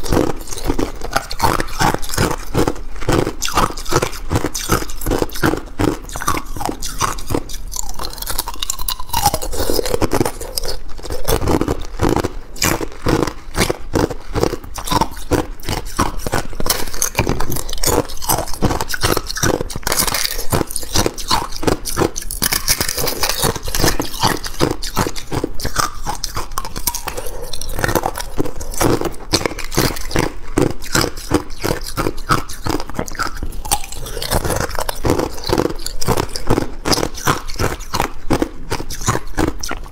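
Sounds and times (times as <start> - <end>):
ice cracking between teeth: 0.0 - 39.9.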